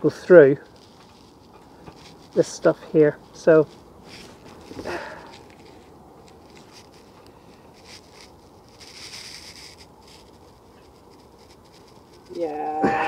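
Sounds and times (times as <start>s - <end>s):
rope rustling and scratching: 0.0s - 13.0s.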